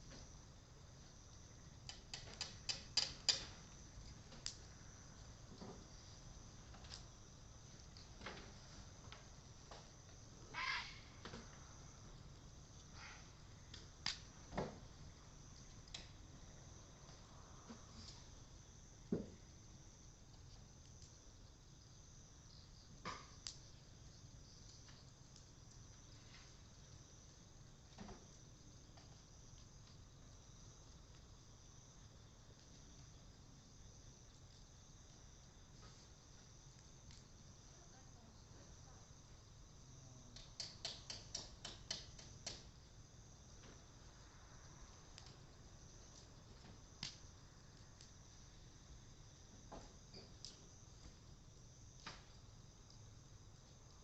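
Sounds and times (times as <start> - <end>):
wood fire crackling and popping: 0.0 - 10.5, 11.2 - 37.7, 38.7 - 54.0
crickets and insects chirring: 0.0 - 54.0.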